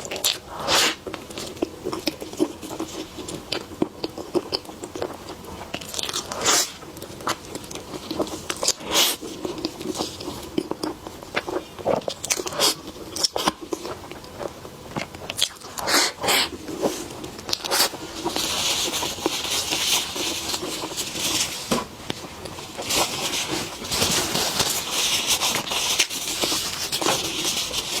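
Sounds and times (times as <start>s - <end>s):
crackly rustle: 1.0s - 15.9s, 16.5s - 28.0s.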